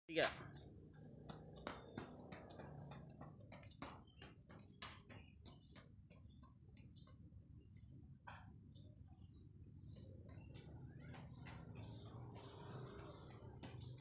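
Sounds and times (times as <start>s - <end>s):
running footsteps on concrete: 0.6s - 14.0s.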